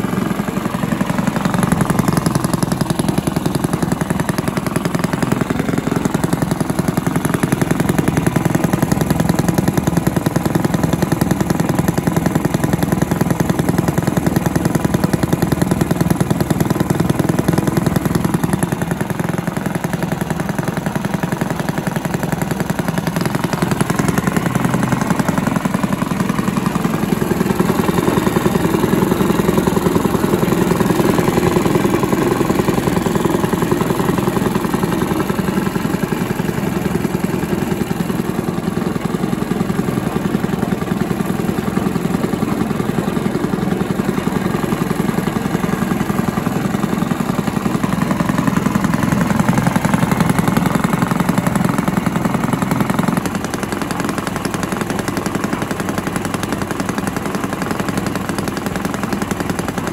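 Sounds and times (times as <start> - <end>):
petrol engine idling: 0.0 - 59.9.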